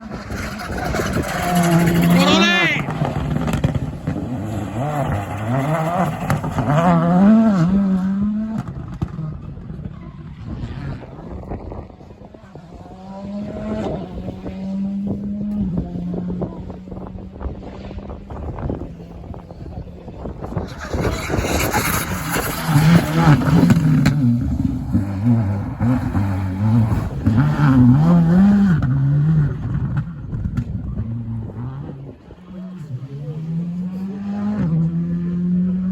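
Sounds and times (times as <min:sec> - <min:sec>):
rally car engine revving: 0:00.0 - 0:35.9.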